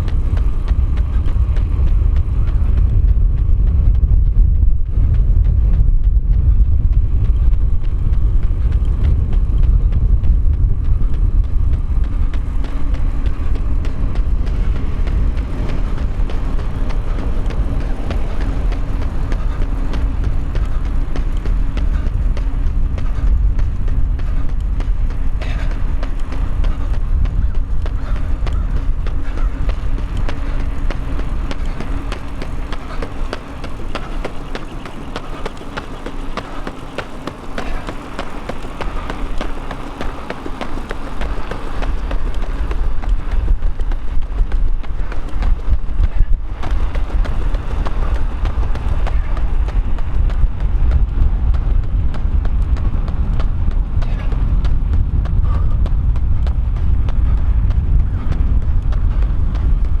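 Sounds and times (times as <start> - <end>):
faint steady hum: 0.0 - 60.0
wind rumble on microphone: 0.0 - 60.0.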